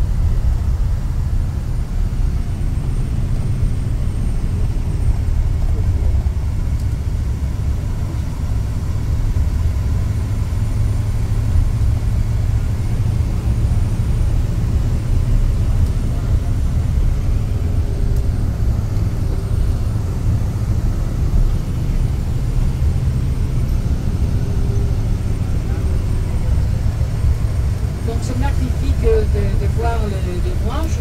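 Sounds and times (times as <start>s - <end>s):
bus engine rumbling: 0.0s - 31.0s
tyres on road: 0.0s - 31.0s.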